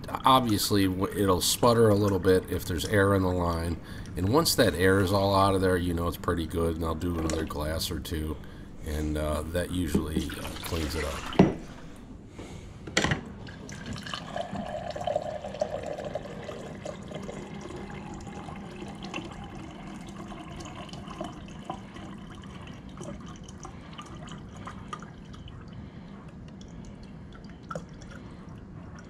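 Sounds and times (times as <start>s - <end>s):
water pouring into a glass: 0.1s - 8.3s, 9.2s - 11.9s, 13.4s - 29.0s.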